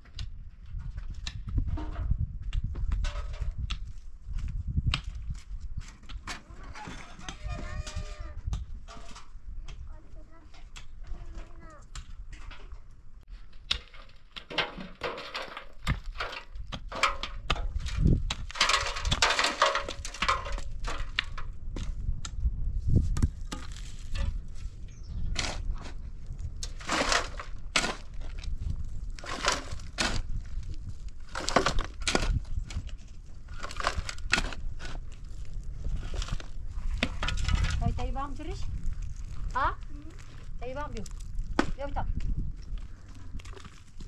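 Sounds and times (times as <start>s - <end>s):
crunching scraping and knocking: 0.0s - 44.0s.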